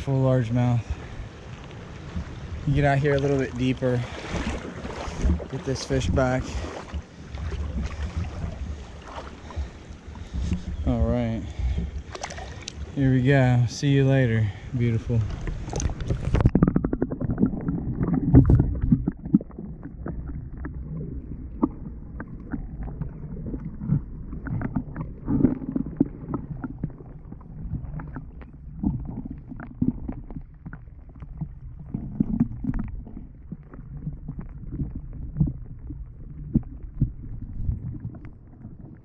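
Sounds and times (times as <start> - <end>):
underwater river current gurgling: 0.0 - 39.0.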